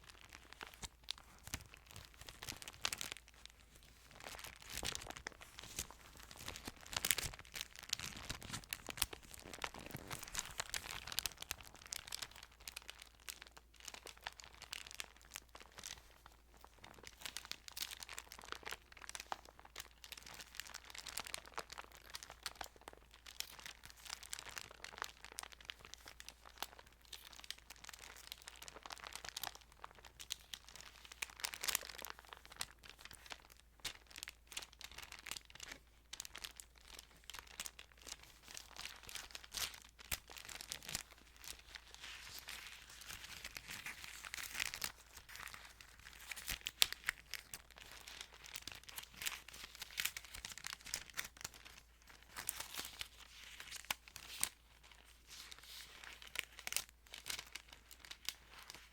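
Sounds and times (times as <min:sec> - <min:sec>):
thin pages crinkling and rustling: 0:00.0 - 0:58.9.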